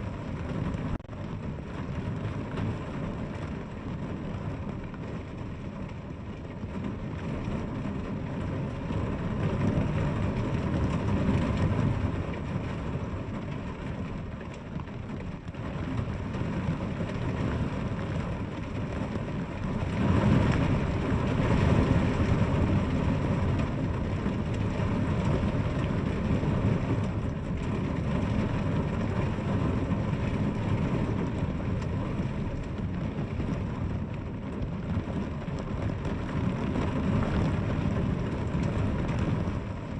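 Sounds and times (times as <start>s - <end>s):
deep rumble: 0.0s - 39.9s
heavy rain: 0.0s - 39.9s.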